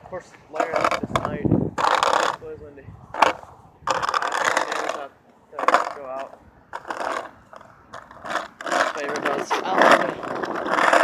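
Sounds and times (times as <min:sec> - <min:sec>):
skateboard wheels on rough pavement: 0:00.0 - 0:02.5, 0:03.1 - 0:11.0
wind buffeting microphone: 0:00.0 - 0:04.8, 0:06.0 - 0:11.0.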